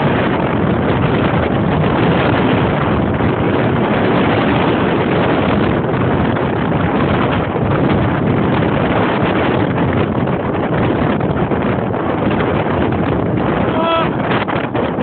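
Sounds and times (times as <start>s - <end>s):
wind blowing on microphone: 0.0s - 15.0s.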